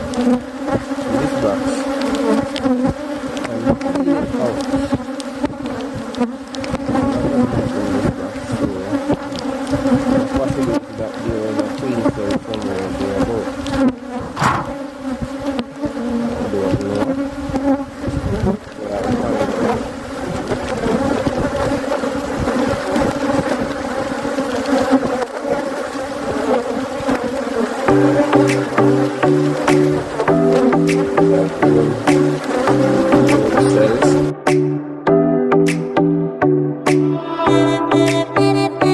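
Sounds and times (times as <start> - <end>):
honeybees buzzing: 0.0 - 38.9.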